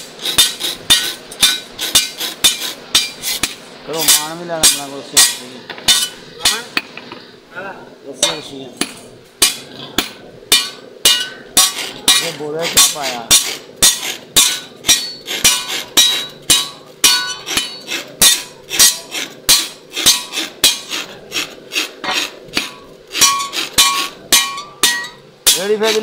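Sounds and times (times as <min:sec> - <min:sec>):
hammer beating blade on anvil: 0:00.2 - 0:06.9, 0:08.2 - 0:21.0, 0:22.0 - 0:26.0.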